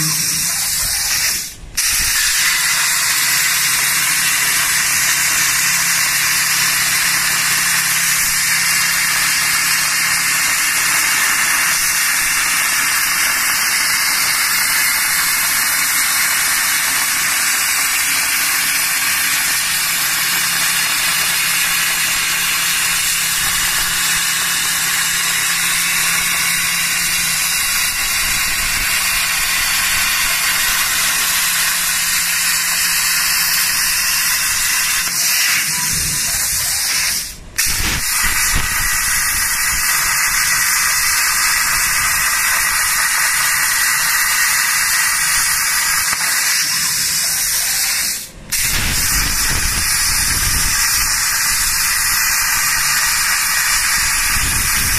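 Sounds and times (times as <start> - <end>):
plasma torch cutting metal hiss: 0.0 - 54.9.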